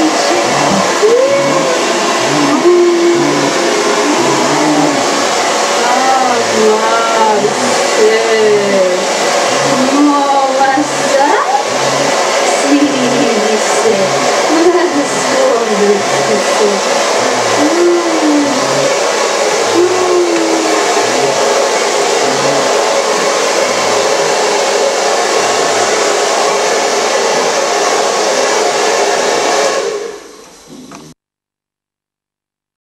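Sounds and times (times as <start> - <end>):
hair dryer blowing: 0.0 - 31.2.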